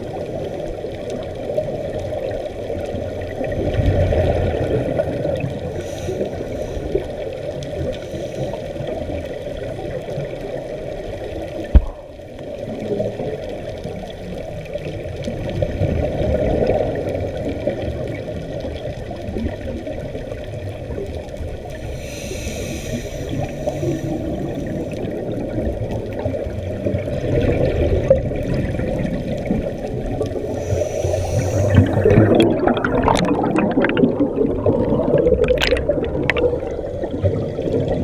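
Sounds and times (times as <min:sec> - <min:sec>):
underwater bubbles gurgling: 0:00.0 - 0:38.0.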